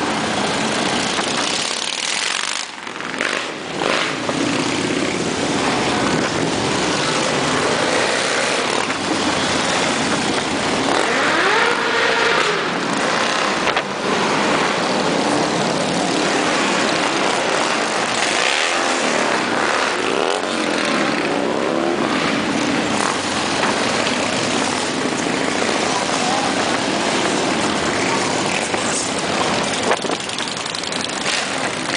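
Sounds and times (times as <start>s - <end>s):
motorcycles riding past: 0.0s - 31.9s.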